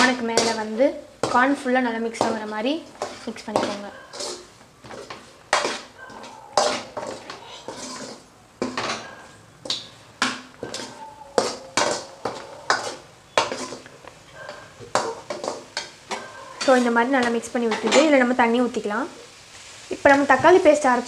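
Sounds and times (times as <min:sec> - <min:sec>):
spoon scraping metal pan: 0:00.0 - 0:18.2.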